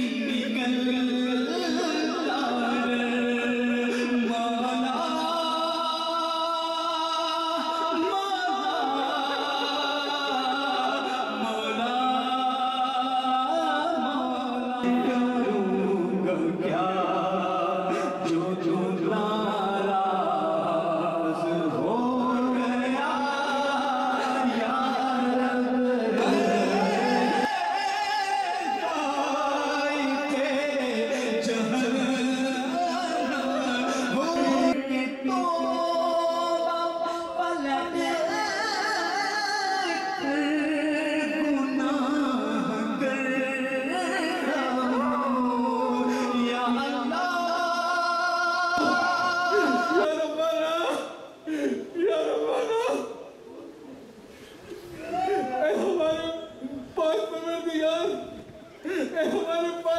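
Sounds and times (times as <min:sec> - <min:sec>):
man singing devotional chant: 0:00.0 - 0:52.6.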